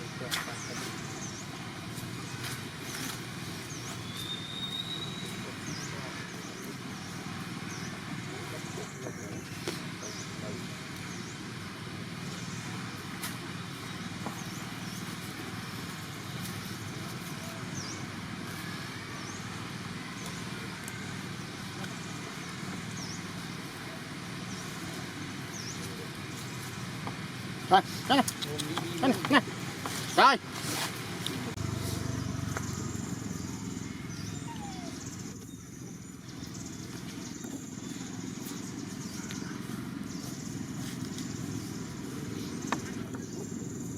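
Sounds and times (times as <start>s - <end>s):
low traffic rumble: 0.0s - 43.9s.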